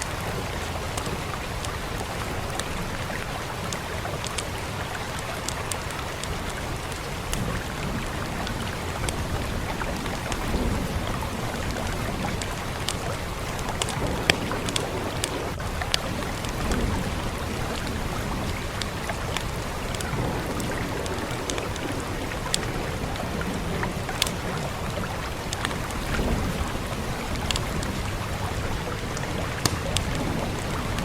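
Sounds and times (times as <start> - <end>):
fireplace fire crackling: 0.0 - 31.0
rain falling: 0.0 - 31.0.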